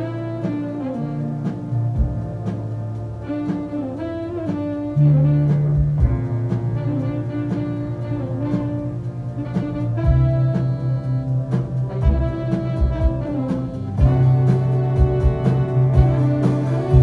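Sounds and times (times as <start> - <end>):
jazz big band playing: 0.0 - 17.0
low bass note: 0.0 - 17.0.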